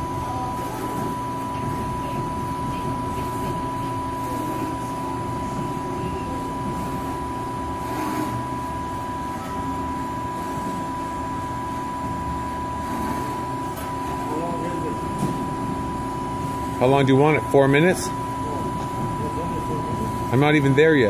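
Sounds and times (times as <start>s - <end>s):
machine hum with high whine: 0.0s - 21.0s.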